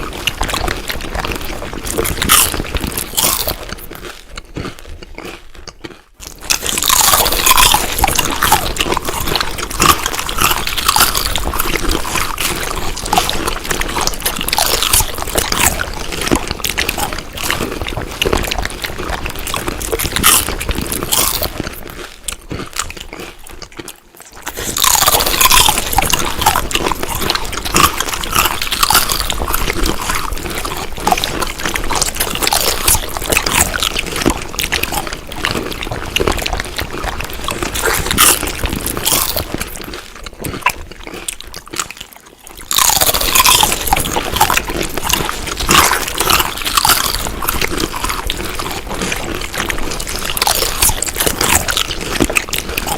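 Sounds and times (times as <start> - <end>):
wet crunchy chewing: 0.0 - 52.9.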